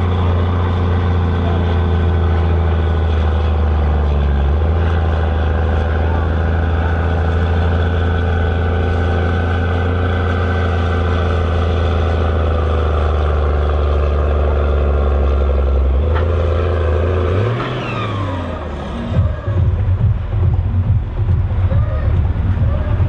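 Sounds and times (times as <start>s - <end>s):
tractor engine under load: 0.0s - 23.0s.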